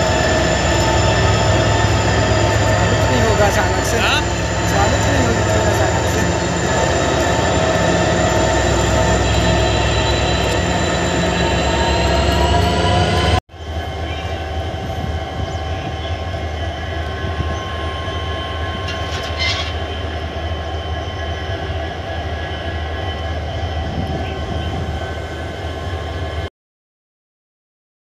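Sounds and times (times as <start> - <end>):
locomotive engine drone: 0.0 - 26.5.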